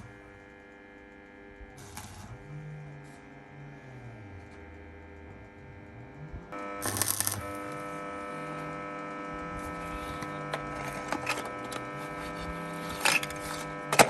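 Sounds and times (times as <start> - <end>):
electric motor humming: 0.0 - 14.0.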